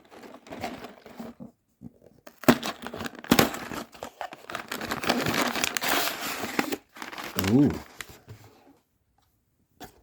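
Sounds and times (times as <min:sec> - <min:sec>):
cardboard and plastic bags crinkling: 0:00.0 - 0:08.3.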